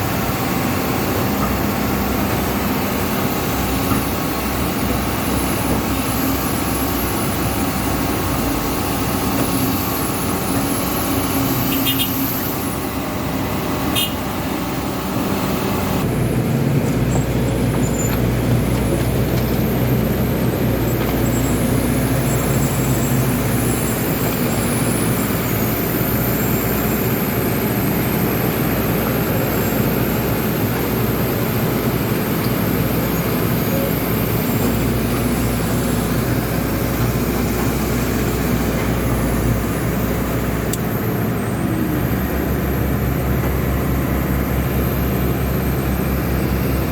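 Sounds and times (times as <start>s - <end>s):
excavator diesel engine rumbling: 0.0s - 46.9s.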